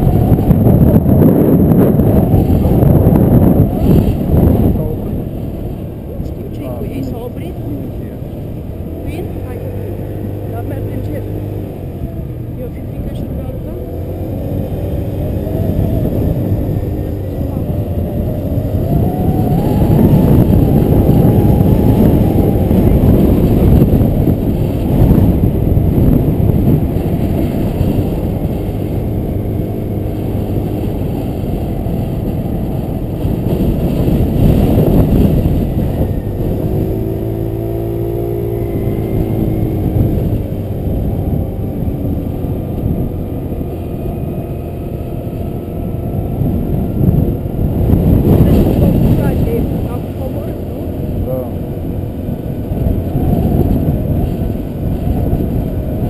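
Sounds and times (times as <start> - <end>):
scooter engine running: 0.0 - 56.0
wind rumble on microphone: 0.0 - 56.0.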